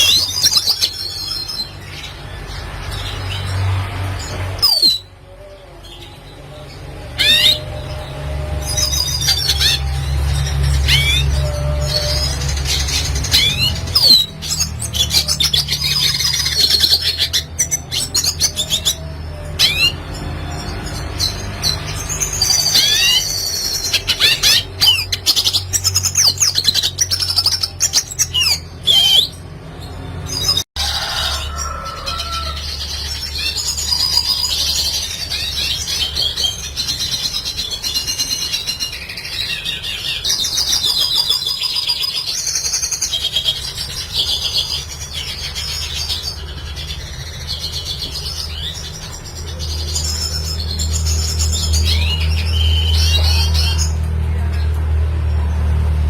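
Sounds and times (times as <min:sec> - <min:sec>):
bird twittering song: 0:00.0 - 0:30.6, 0:31.2 - 0:54.8.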